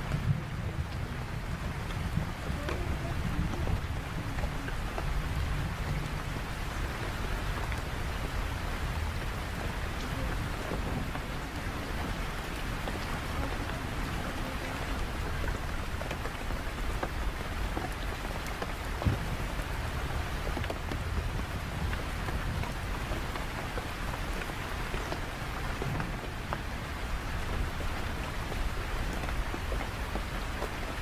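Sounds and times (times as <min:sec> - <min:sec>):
low rumble of thunder: 0:00.0 - 0:31.0
rain falling on surfaces: 0:00.0 - 0:31.0.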